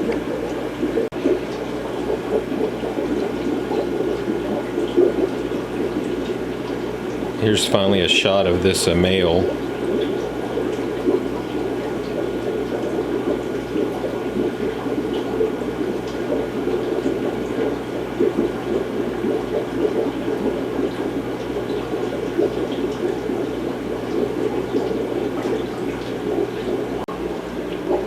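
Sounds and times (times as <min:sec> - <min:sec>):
aquarium filter bubbling: 0:00.0 - 0:28.0.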